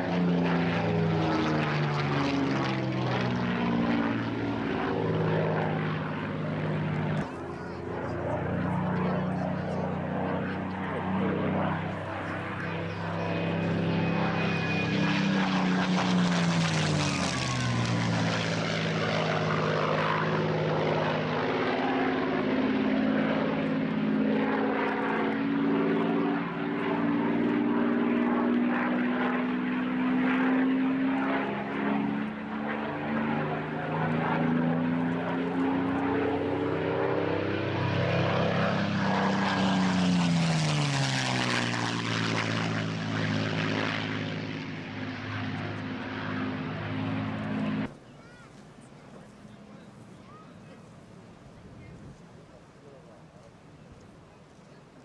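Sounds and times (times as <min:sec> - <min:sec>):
propeller plane engine flypast: 0:00.0 - 0:55.0.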